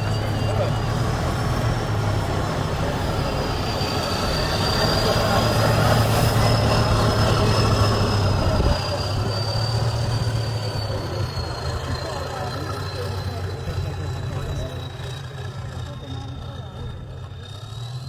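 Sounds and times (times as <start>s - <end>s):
high wavering whine: 0.0s - 15.0s
truck engine working hard: 0.0s - 18.0s.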